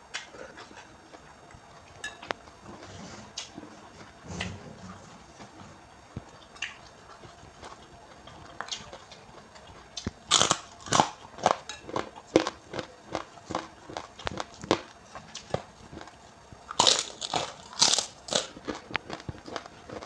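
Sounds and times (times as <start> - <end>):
chewing crunchy food: 0.0 - 20.0.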